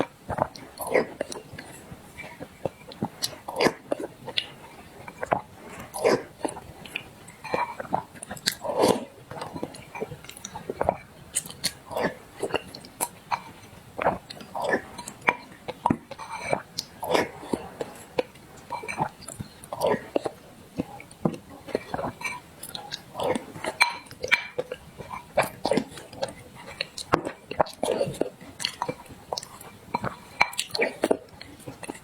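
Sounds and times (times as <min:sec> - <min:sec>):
person chewing and swallowing: 0:00.0 - 0:32.0.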